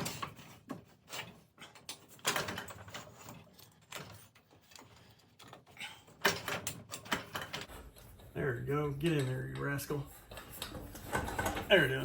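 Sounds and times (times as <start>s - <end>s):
metal parts clinking and scraping: 0.0s - 12.0s.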